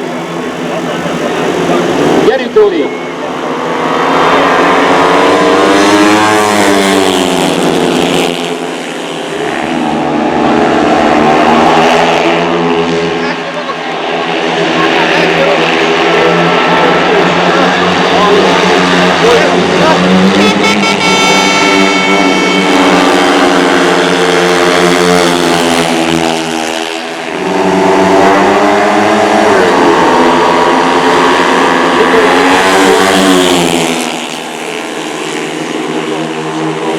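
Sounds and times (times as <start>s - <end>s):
motorcycle engines racing: 0.0s - 36.9s.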